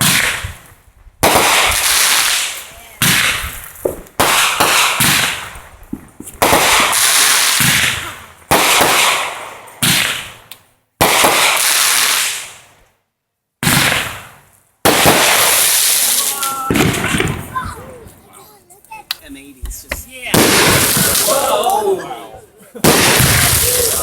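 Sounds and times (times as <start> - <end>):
loud firework bursts: 0.0 - 12.8, 13.6 - 18.9, 20.0 - 21.7, 22.8 - 24.0.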